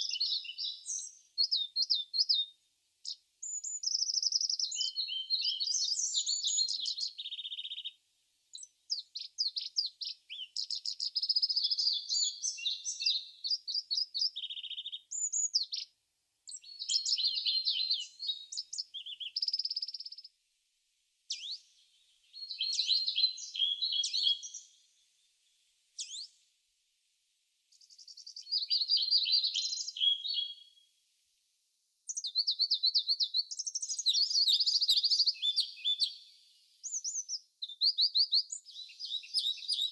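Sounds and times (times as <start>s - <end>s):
songbird twittering and trilling: 0.0s - 20.4s, 21.3s - 25.2s, 25.9s - 26.4s, 27.7s - 30.9s, 32.1s - 39.9s.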